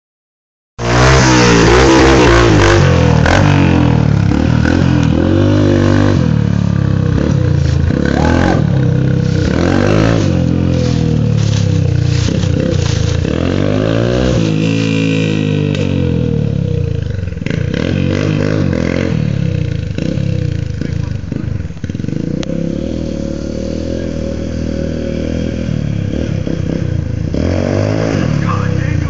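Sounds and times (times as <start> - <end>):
dirt bike engine revving: 0.8 - 29.0.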